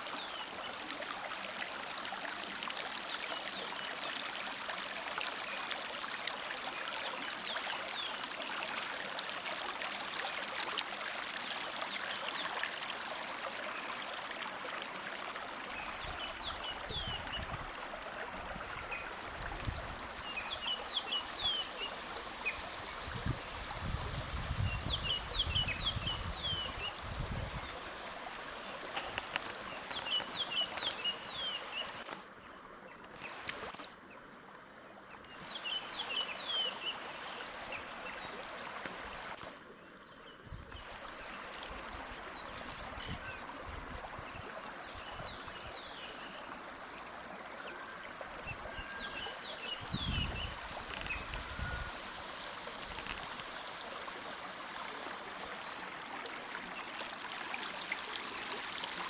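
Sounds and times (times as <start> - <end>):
creek babbling over stones: 0.0 - 59.0.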